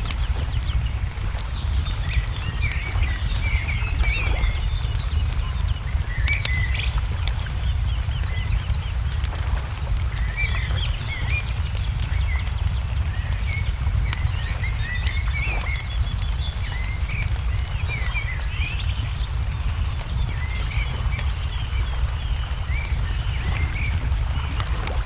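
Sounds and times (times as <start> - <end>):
birds chirping: 0.0 - 25.0
wood fire crackling and popping: 0.0 - 25.0.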